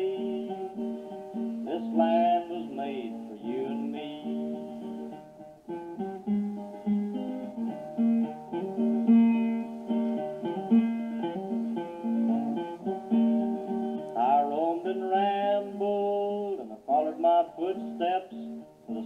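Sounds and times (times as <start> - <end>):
acoustic guitar folk tune: 0.0 - 19.0.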